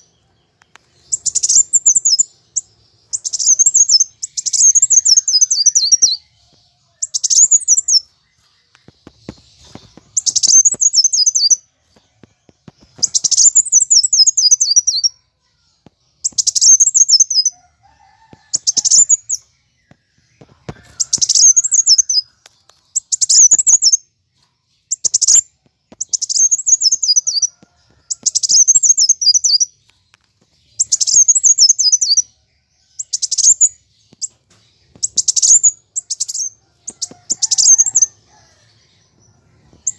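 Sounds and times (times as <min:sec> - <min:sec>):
sunbird chittering song: 0:00.0 - 0:12.0, 0:12.7 - 0:39.9.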